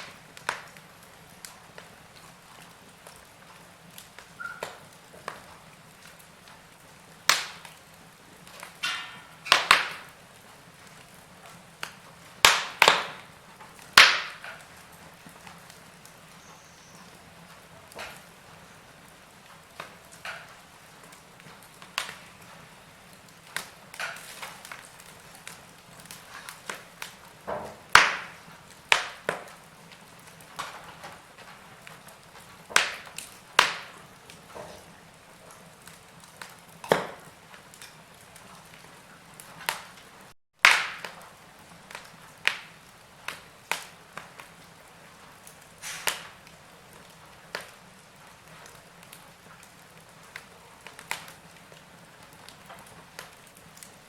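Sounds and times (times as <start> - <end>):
faint steady hiss: 0.0 - 54.0
wood fire crackling and popping: 0.0 - 54.0.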